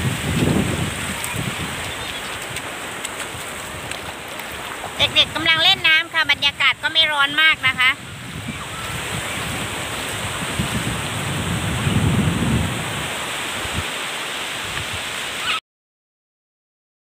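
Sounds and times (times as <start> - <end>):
wind buffeting microphone: 0.0 - 14.0
surf washing onto beach: 0.0 - 15.6.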